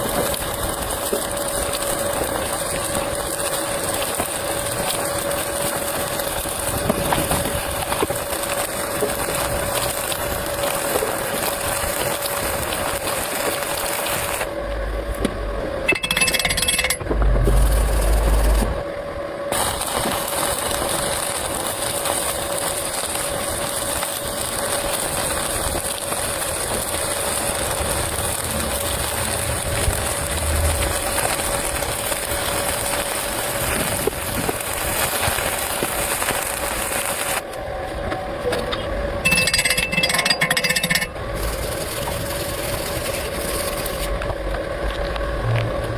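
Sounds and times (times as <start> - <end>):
welding arc crackling hiss: 0.0 - 18.9, 19.5 - 38.1, 38.7 - 45.9
welding machine hum: 0.0 - 45.9.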